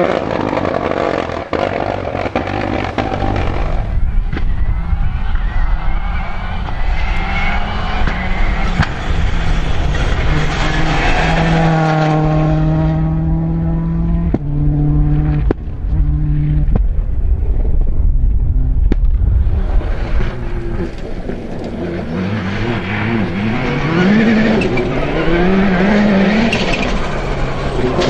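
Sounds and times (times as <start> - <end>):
rally car engine passing: 0.0 - 28.0.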